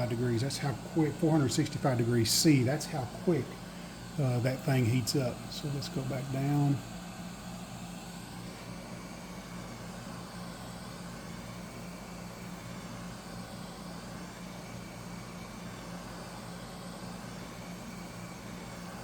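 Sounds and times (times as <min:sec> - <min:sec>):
hot air gun fan hum: 0:00.0 - 0:19.0.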